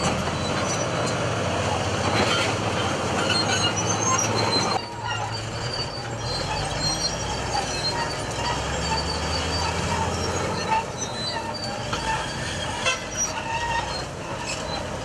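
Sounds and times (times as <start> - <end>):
vehicle running hum: 0.0 - 15.0
high squeals: 2.1 - 15.0.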